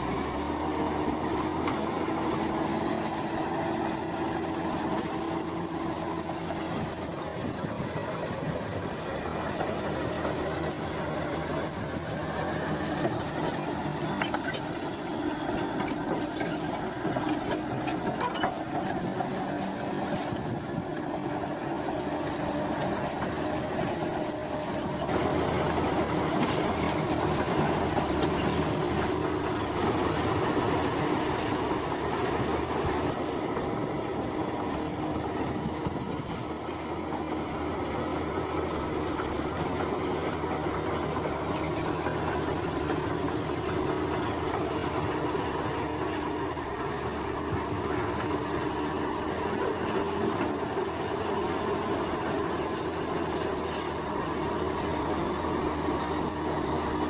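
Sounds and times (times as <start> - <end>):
bulldozer diesel engine running: 0.0 - 57.0
steel tracks clattering and squeaking: 0.0 - 57.0.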